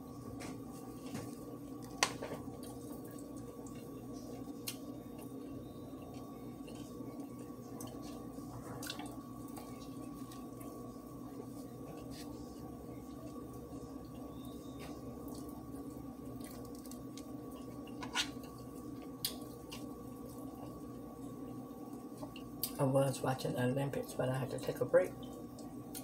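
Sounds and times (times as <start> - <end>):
background hum: 0.0 - 26.0.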